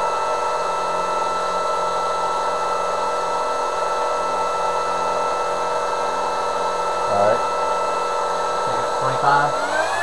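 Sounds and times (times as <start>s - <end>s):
electric motor whine: 0.0s - 10.0s.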